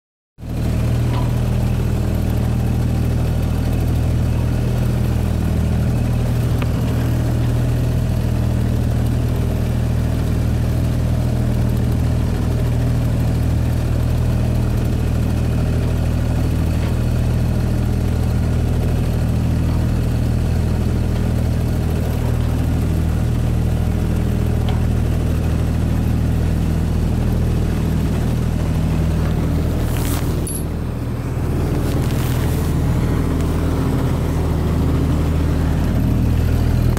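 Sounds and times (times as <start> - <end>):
motorboat engine humming: 0.4 - 36.9.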